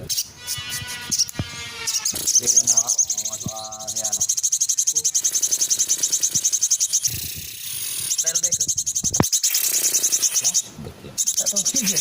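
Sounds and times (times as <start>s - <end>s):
bird trilling high notes: 0.1s - 12.0s.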